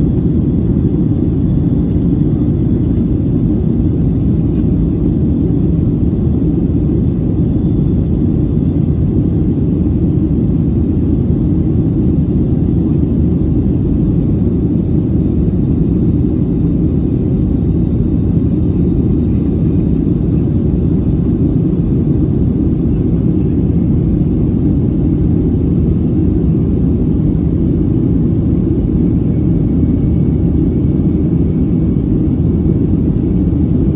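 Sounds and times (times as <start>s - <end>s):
jet engine roar in cabin: 0.0s - 33.9s.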